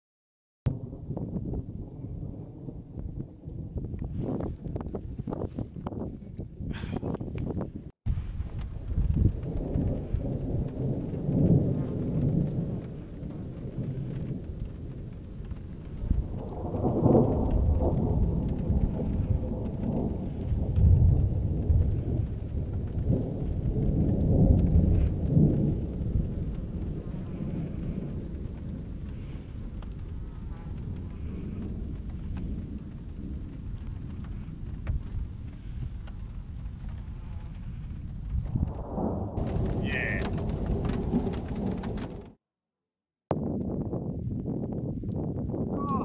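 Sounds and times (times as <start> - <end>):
rolling thunder: 0.7 - 42.4, 43.3 - 46.0.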